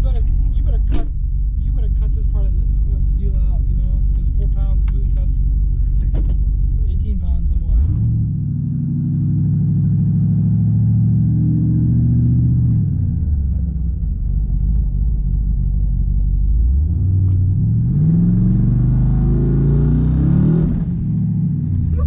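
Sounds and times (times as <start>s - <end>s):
truck engine accelerating: 0.0s - 22.0s.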